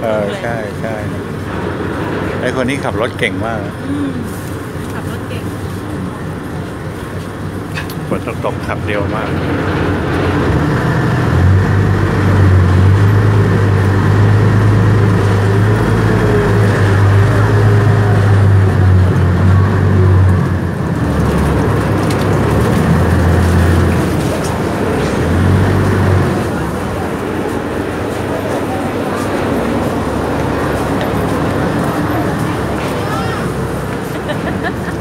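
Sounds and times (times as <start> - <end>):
ferry engine low drone: 0.0 - 35.0.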